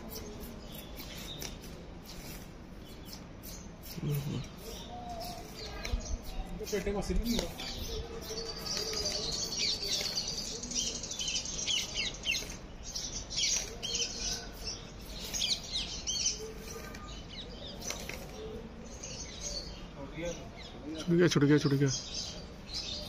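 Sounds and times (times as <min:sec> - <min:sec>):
birds twittering: 0:00.0 - 0:23.0.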